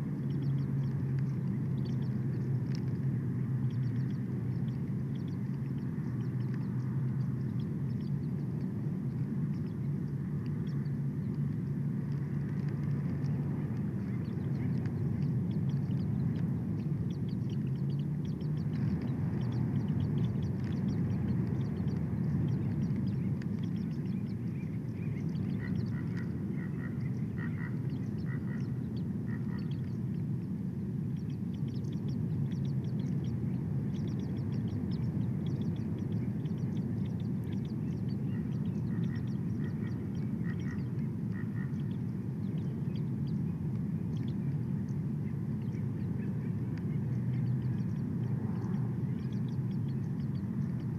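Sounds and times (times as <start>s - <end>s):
low wind rumble: 0.0s - 50.9s
small birds chirping: 0.0s - 50.9s.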